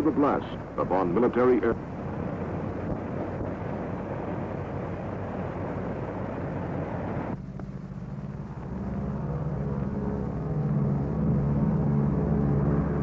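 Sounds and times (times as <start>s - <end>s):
propeller aircraft engines running: 0.0s - 13.0s.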